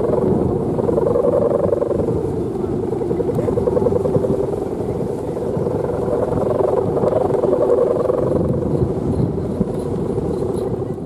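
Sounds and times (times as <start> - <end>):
kite humming bow droning: 0.0 - 11.0
low rumble: 0.0 - 11.0.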